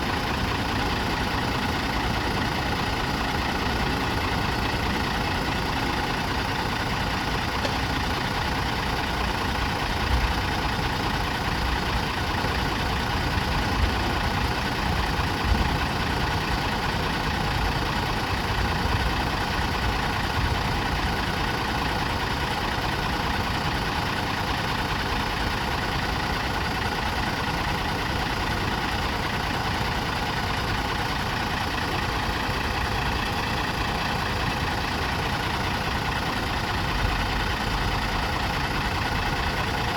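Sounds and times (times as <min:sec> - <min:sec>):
bus engine idling: 0:00.0 - 0:39.9.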